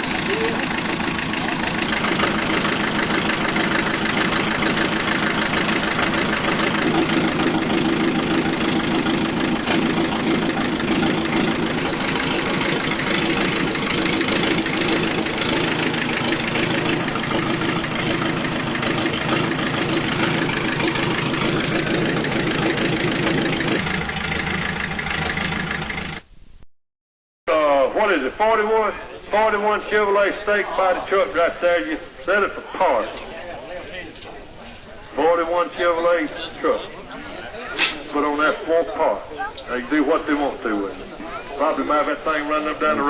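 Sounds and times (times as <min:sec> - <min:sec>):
vehicle engine running under load: 0:00.0 - 0:26.2, 0:28.7 - 0:43.0.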